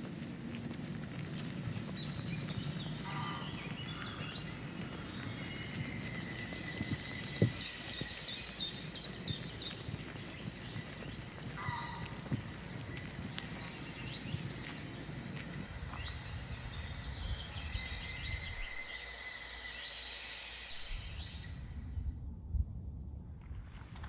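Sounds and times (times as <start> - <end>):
footsteps on a woodland trail: 0.0 - 21.6
birds chirping: 0.0 - 21.8.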